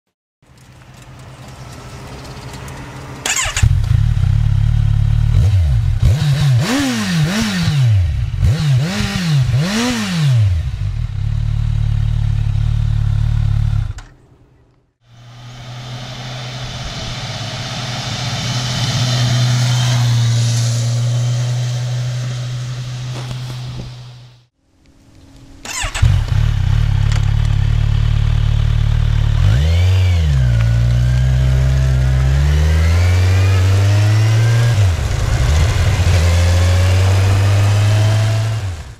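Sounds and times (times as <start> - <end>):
motorcycle passing on road: 0.4 - 38.9
motorcycle engine revving: 3.2 - 14.2, 15.1 - 24.5, 25.6 - 38.9.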